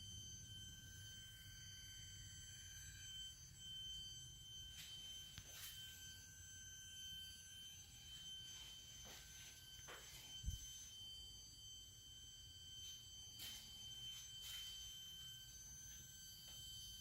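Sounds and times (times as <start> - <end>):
speaker high-pitched whine: 0.0 - 17.0.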